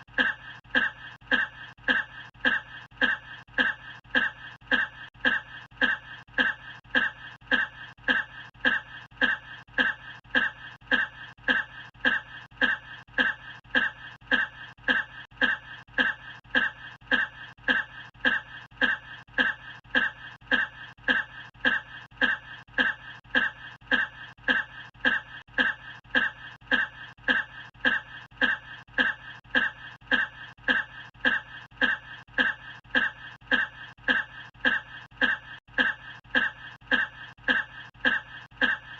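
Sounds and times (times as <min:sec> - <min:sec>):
man coughing: 0:00.0 - 0:38.9.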